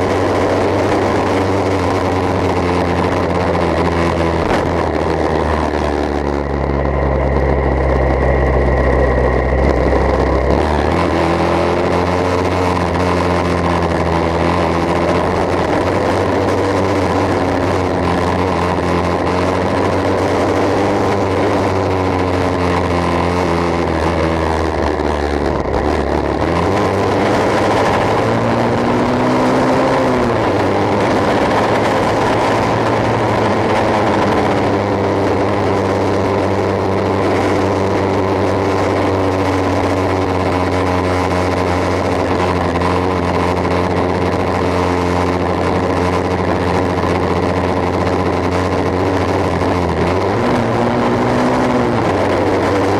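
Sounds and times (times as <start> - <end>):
engine low drone: 0.0 - 52.9.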